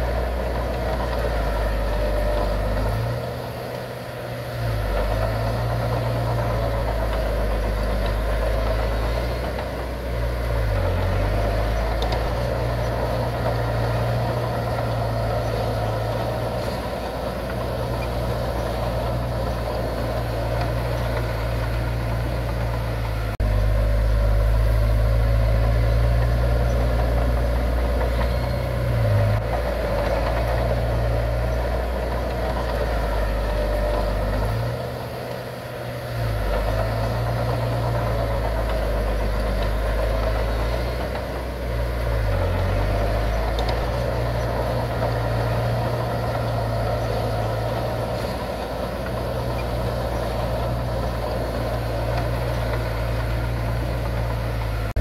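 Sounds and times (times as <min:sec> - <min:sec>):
diesel engine of heavy machinery: 0:00.0 - 0:55.0.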